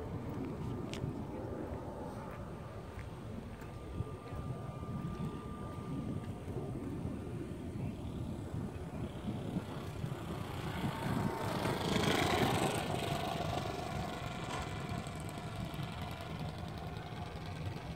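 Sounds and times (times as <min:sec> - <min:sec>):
model airplane engine: 0:00.0 - 0:17.9.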